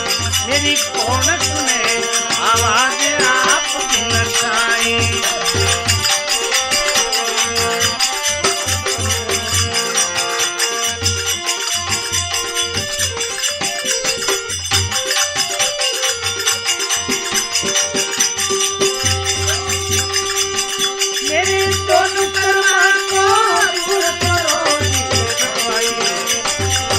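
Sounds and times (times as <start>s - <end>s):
held melody line: 0.0s - 26.9s
jingling hand percussion: 0.0s - 26.9s.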